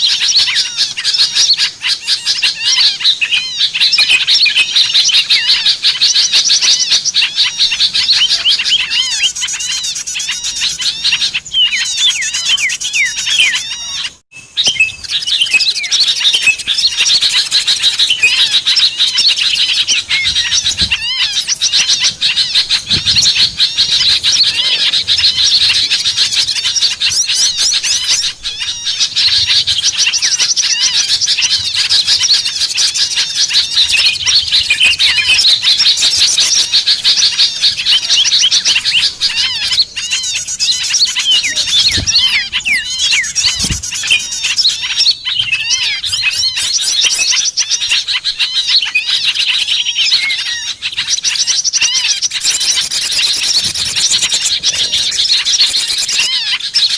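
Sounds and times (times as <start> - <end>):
songbirds chattering and twittering: 0.0 - 56.9.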